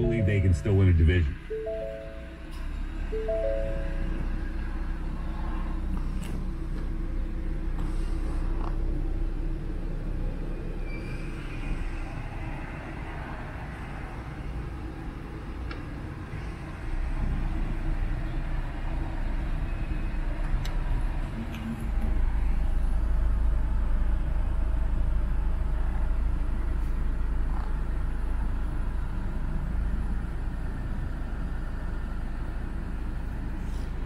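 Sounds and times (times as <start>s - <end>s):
car engine idling: 0.0s - 10.8s, 14.0s - 34.0s.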